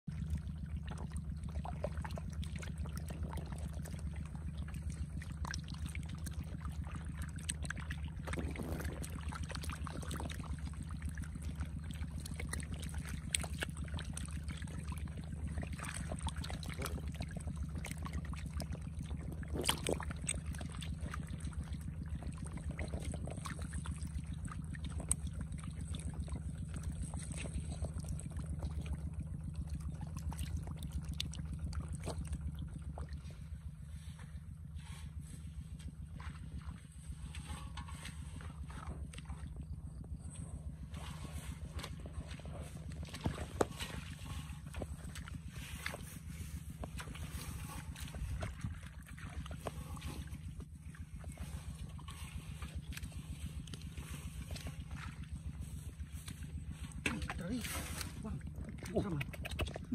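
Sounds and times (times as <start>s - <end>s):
steady low hum: 0.0s - 59.9s
water trickling along a ditch: 0.0s - 59.9s
fish splashing in water: 0.1s - 59.9s.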